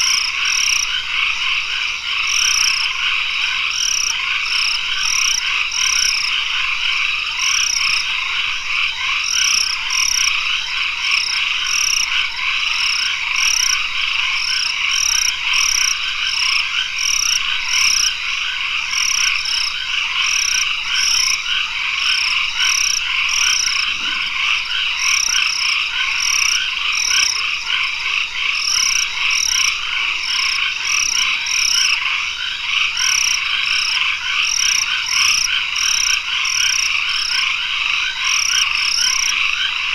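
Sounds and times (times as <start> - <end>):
frogs trilling chorus: 0.0 - 39.9.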